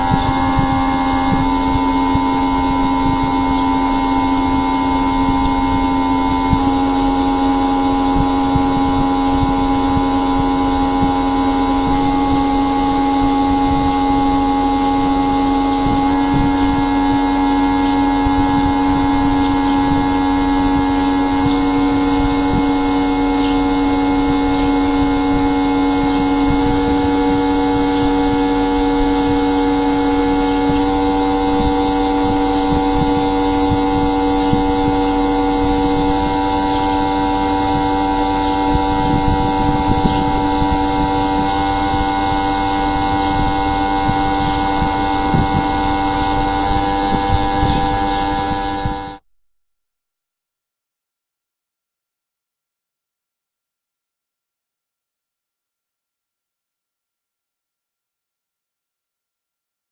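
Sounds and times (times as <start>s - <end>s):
electrical machine hum: 0.0s - 49.2s.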